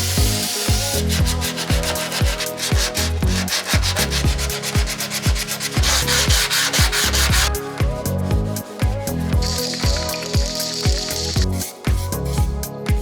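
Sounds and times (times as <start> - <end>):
rasping rubbing noise: 0.0 - 12.2
loud hiss: 0.0 - 12.4
electronic music: 0.0 - 13.0
kick drum thudding: 0.2 - 13.0.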